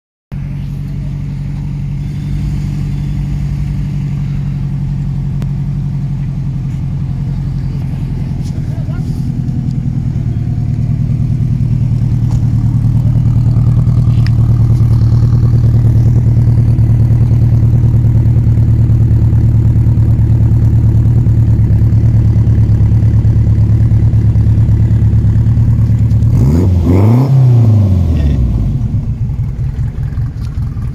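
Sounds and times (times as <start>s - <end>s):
engine revving: 0.3s - 19.4s, 21.8s - 30.9s
car engine idling: 0.3s - 30.9s.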